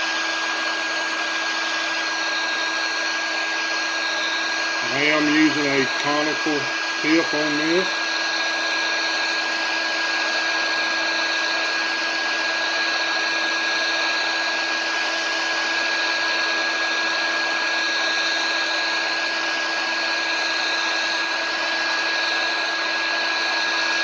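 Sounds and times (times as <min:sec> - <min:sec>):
heat gun blowing with whine: 0:00.0 - 0:24.0.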